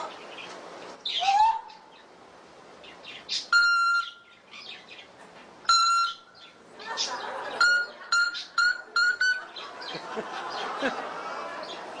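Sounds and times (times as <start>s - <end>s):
parrot squawking and chirping: 0.0s - 10.6s.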